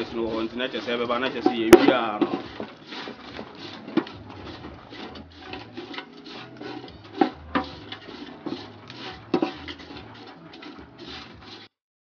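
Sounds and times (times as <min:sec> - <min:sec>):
dried fish scraping in a metal pot: 0:00.0 - 0:11.8
spatula knocking on a pot: 0:01.0 - 0:11.6.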